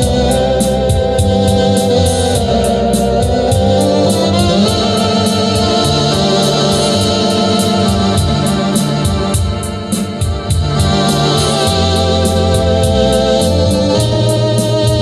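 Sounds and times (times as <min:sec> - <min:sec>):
organ playing a melody: 0:00.0 - 0:15.0
steady ticking beat: 0:00.0 - 0:15.0.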